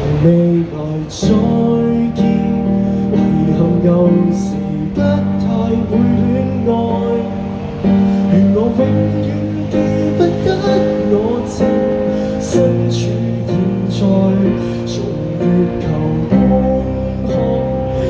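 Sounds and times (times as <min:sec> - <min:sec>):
acoustic guitar ballad: 0:00.0 - 0:18.0.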